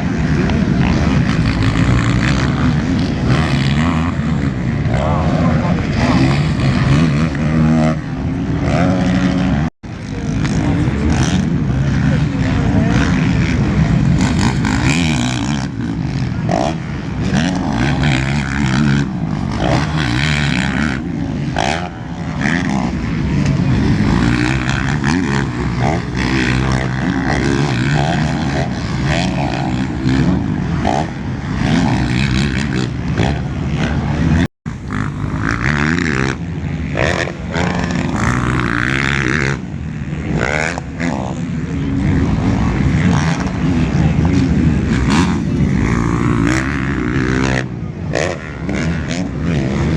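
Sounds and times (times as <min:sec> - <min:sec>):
motorcycle engines revving: 0:00.0 - 0:49.9.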